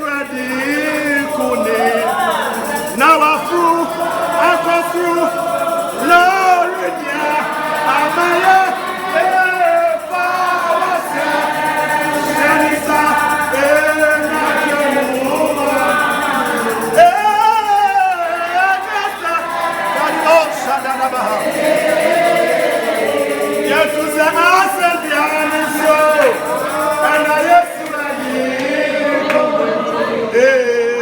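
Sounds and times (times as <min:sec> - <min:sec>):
choir singing gospel song: 0:00.0 - 0:31.0.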